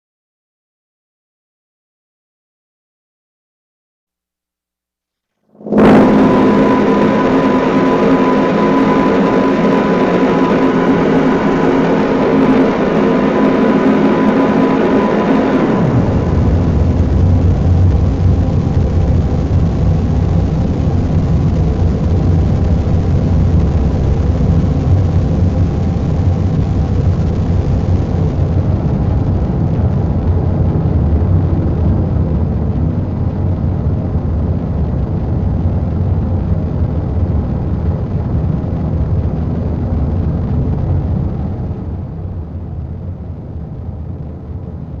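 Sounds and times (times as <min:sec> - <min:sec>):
deep steady effects pedal roar: 0:05.5 - 0:45.0.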